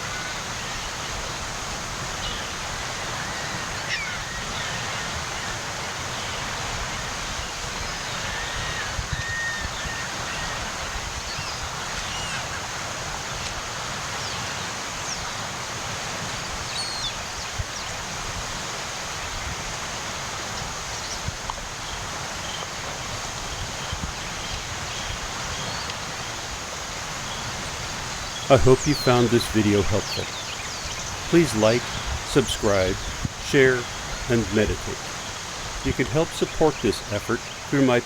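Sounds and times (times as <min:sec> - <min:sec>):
water washing on shore: 0:00.0 - 0:38.0
wind: 0:00.0 - 0:38.0.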